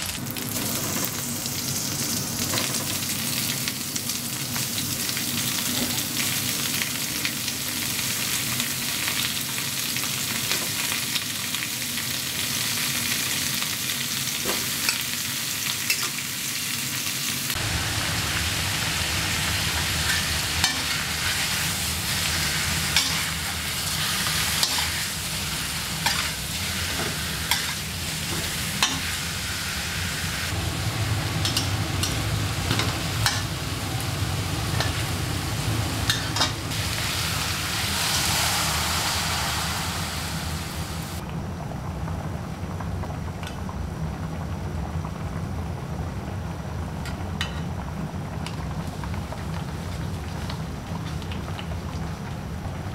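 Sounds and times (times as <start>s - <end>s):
fish sizzling in oil: 0.0s - 41.2s, 47.0s - 52.9s.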